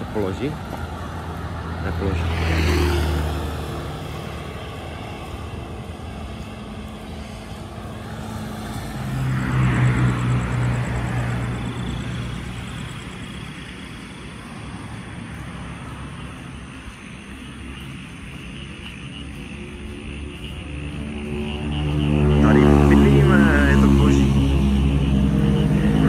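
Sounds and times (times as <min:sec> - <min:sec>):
vehicles passing on road: 0:00.0 - 0:26.0.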